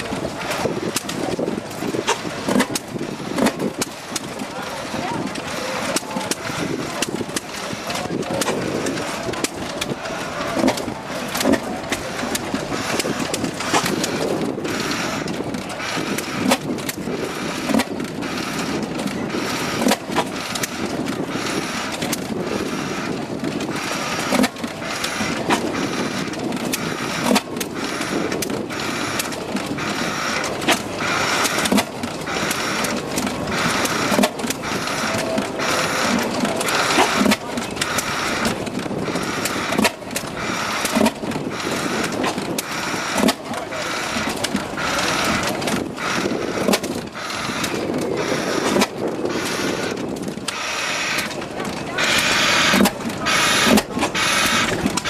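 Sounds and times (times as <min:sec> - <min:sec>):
engine firing pops: 0:00.0 - 0:04.5, 0:05.3 - 0:55.0
rhythmic mechanical clatter: 0:00.0 - 0:55.0.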